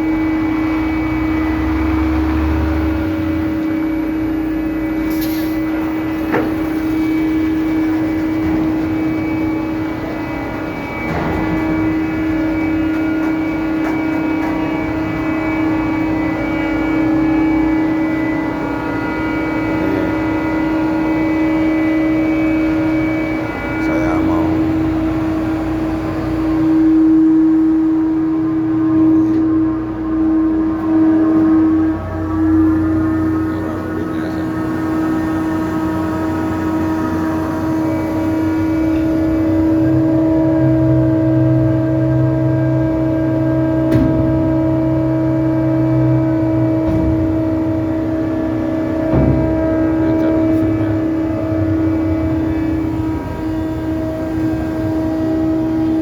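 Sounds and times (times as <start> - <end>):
deep engine note: 0.0 - 56.0
heavy machinery drone: 0.0 - 56.0.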